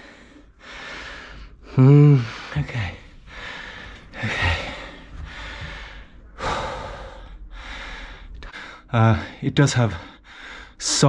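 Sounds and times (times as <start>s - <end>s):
man breathing hard: 0.0s - 10.8s.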